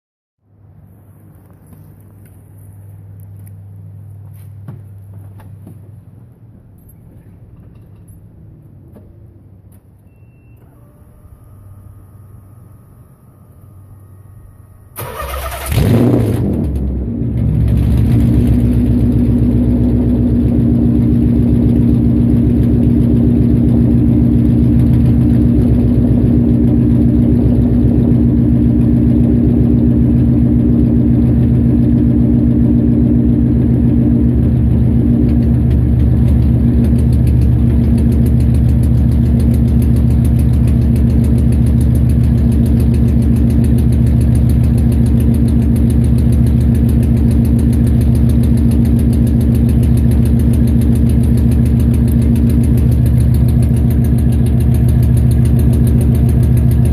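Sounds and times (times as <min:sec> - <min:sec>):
car engine starting and idling: 0:00.8 - 0:56.9
engine misfire: 0:10.5 - 0:56.9.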